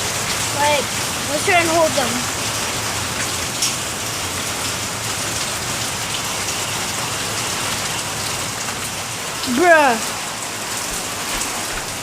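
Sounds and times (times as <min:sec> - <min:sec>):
heavy rain and hail hissing: 0:00.0 - 0:12.0.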